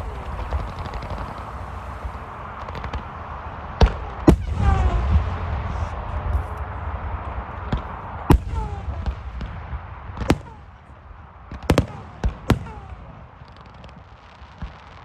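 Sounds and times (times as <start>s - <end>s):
low rumble: 0.0s - 13.4s
fireworks bangs: 0.0s - 15.0s.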